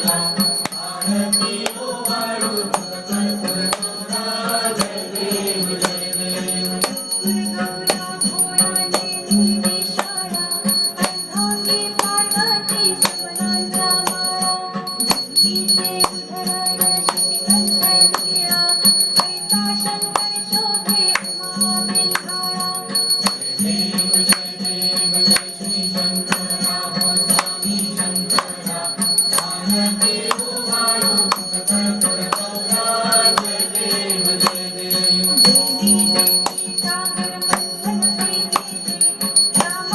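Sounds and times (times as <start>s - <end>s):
devotional music: 0.0s - 39.9s
person singing: 0.0s - 39.9s
rattling jingling percussion: 0.0s - 39.9s
sustained instrumental tones: 0.0s - 39.9s.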